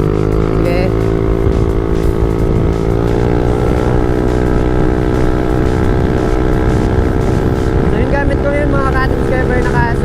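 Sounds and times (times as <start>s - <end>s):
scooter engine cruising: 0.0s - 10.0s.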